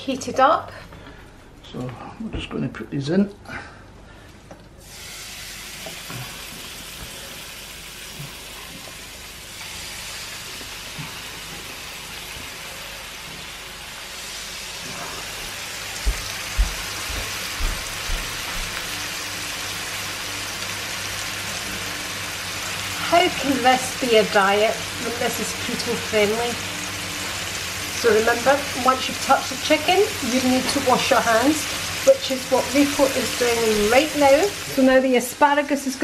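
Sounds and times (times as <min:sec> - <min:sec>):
chicken sizzling in frying pan: 0:04.8 - 0:36.0.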